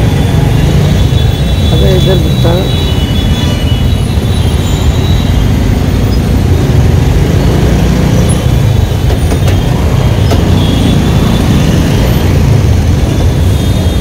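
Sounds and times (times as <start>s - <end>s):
motorbike engine and road noise: 0.0s - 14.0s.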